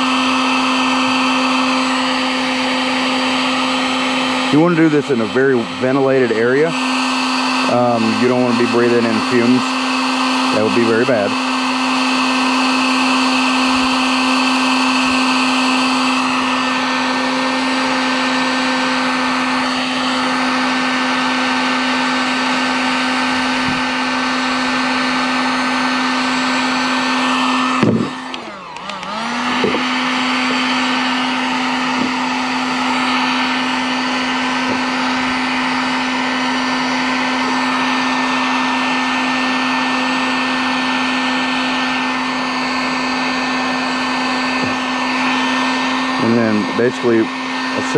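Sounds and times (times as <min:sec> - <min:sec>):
heat gun fan motor humming: 0:00.0 - 0:47.9.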